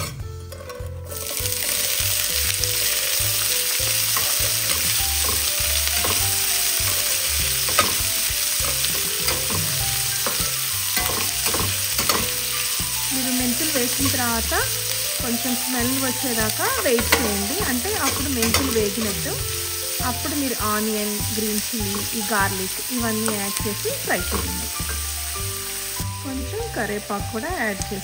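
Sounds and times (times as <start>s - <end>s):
metal spoon scraping a pan: 0.0s - 20.4s, 21.2s - 25.9s
vegetables sizzling in hot oil: 1.0s - 28.0s.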